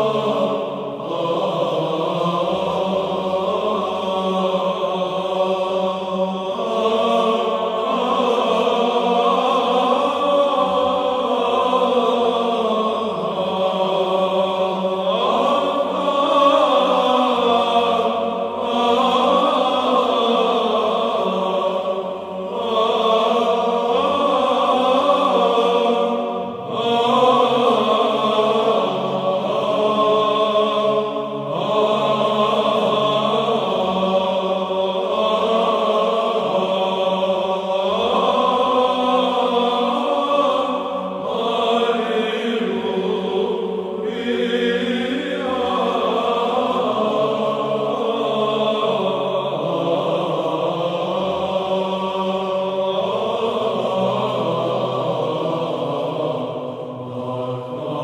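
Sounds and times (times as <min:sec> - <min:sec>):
choir chanting: 0:00.0 - 0:58.0.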